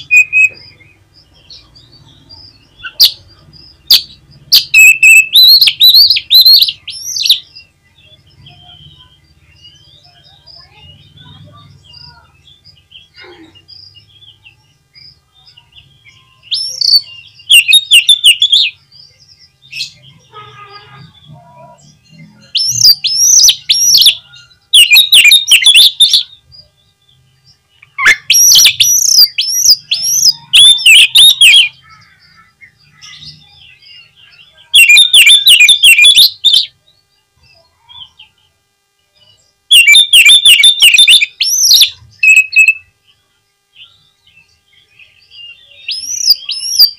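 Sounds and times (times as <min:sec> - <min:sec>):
bird singing: 0:00.0 - 0:46.9.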